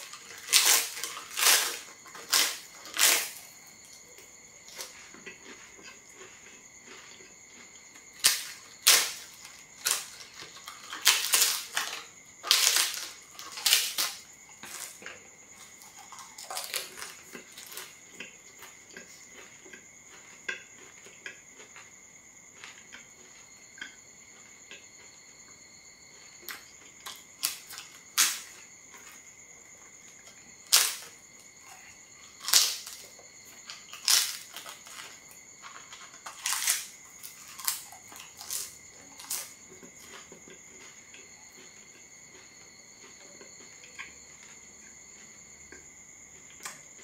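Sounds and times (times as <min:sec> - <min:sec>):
flatbread crunching: 0:00.0 - 0:25.2, 0:26.1 - 0:47.0
chewing crackles: 0:00.0 - 0:47.0.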